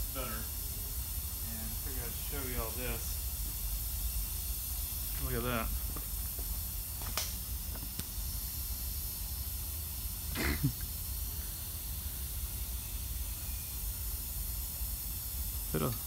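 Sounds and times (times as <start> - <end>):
large fan running: 0.0 - 16.0.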